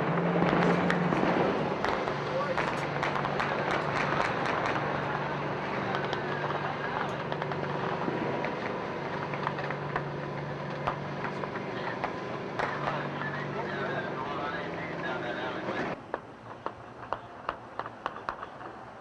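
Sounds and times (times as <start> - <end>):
sharp cracks: 0.0 - 14.0, 15.8 - 19.0
tracked vehicle engine droning: 0.0 - 19.0.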